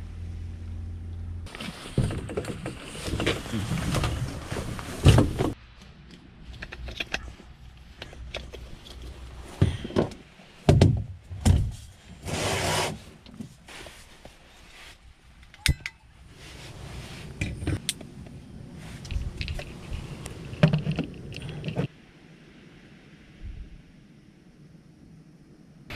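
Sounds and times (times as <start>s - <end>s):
rustle: 0.0s - 25.9s.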